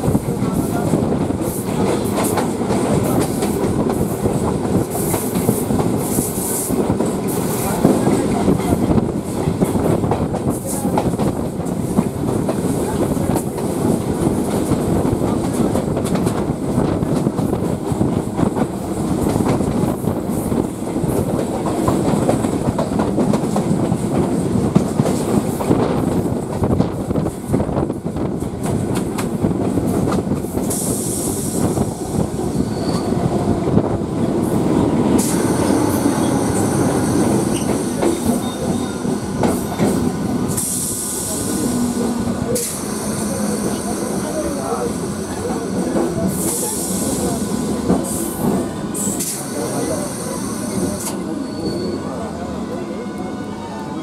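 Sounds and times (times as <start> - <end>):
train wheel rumble: 0.0 - 54.0.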